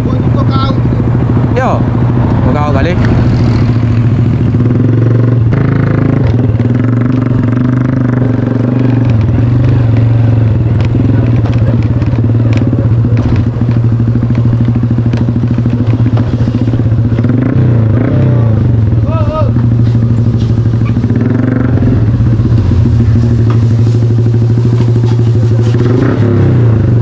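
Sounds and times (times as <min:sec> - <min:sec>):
vehicle engine running loudly: 0:00.0 - 0:27.0.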